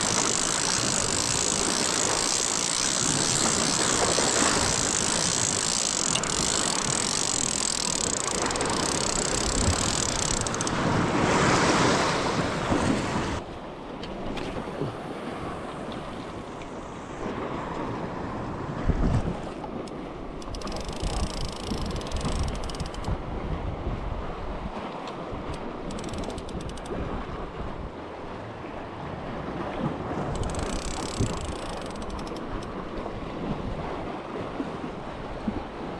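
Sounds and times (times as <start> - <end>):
wind buffeting microphone: 0.0 - 13.4, 15.2 - 35.9
sea surf on rocky shore: 0.0 - 35.9.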